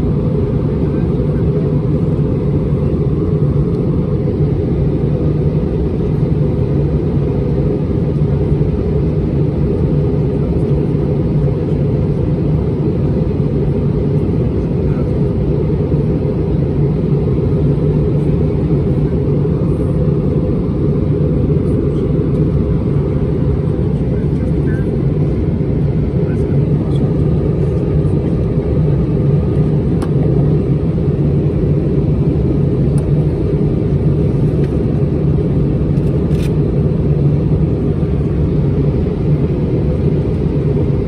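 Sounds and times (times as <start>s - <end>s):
aircraft cabin engine rumble: 0.0s - 41.0s
constant low hum: 0.0s - 41.0s.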